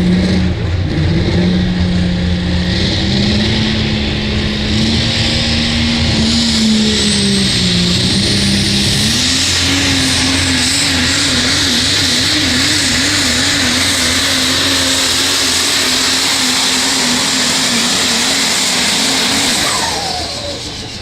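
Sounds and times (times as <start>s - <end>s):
diesel truck engine under load: 0.0s - 21.0s
high turbo whine: 0.0s - 21.0s.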